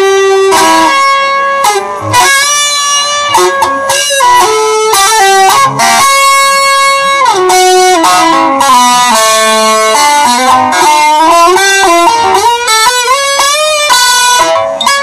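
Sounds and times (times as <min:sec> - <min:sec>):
electric guitar slow melody: 0:00.0 - 0:15.0.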